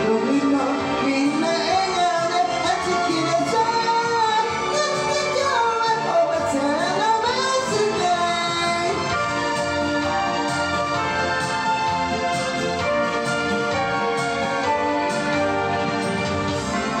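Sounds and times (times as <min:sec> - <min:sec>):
karaoke backing track: 0:00.0 - 0:17.0
person singing pop song: 0:00.0 - 0:17.0.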